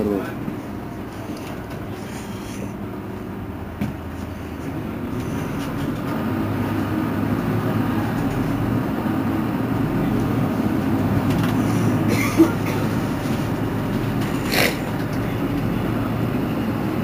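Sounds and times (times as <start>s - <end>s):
bus drivetrain and road drone: 0.0s - 17.0s.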